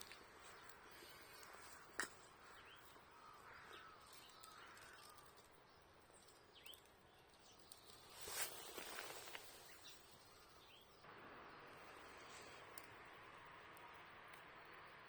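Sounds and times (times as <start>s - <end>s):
campfire crackle: 0.0s - 15.0s
faint birds chirping: 0.0s - 15.0s.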